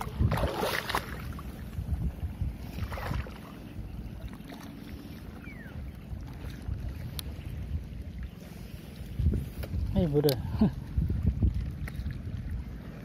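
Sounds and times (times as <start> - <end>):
water splashes: 0.0 - 13.0
wind rumbling on microphone: 0.0 - 13.0.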